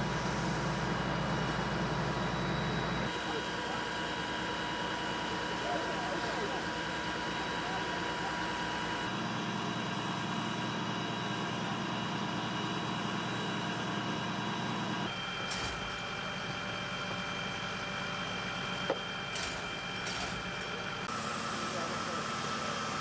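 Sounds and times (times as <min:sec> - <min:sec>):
fire engine idling: 0:00.0 - 0:23.0.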